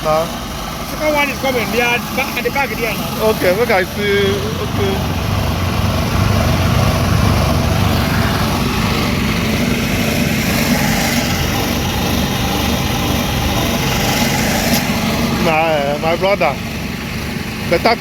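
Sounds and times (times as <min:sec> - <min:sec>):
construction machinery engine: 0:00.0 - 0:18.0.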